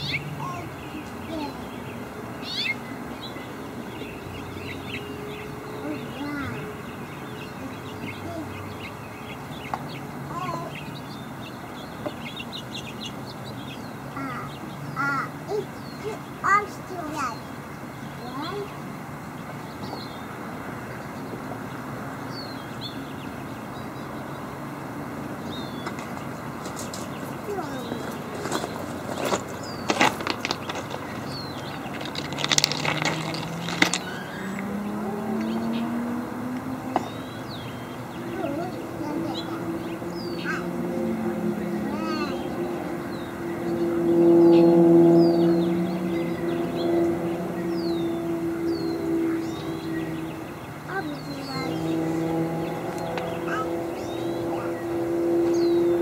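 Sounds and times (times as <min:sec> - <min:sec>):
birds chirping: 0:00.0 - 0:56.0
distant engine: 0:00.0 - 0:56.0
outdoor background hiss: 0:00.0 - 0:56.0.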